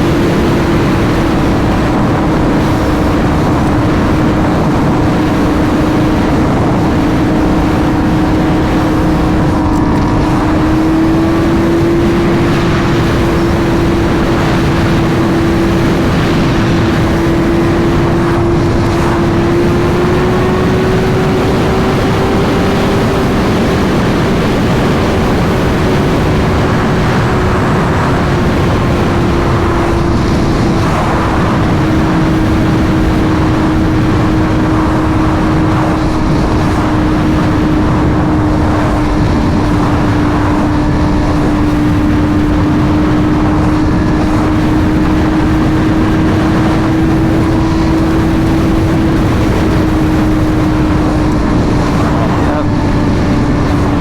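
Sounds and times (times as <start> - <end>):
motorcycle engine cruising: 0.0 - 54.0
wind and road rush: 0.0 - 54.0.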